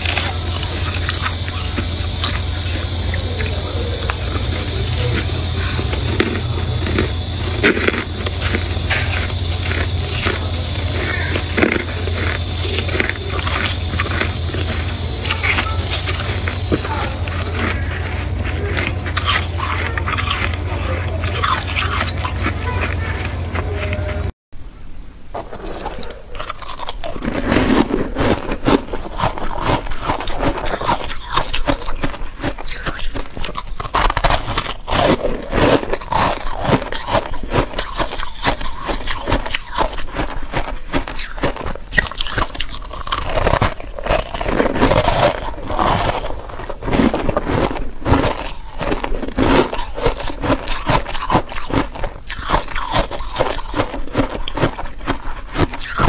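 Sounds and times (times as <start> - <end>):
frost being chewed: 0.0 - 24.3, 25.3 - 56.0.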